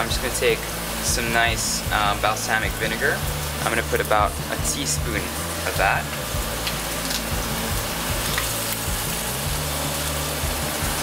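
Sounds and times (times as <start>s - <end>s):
background music: 0.0s - 11.0s
food sizzling in a pan: 0.0s - 11.0s.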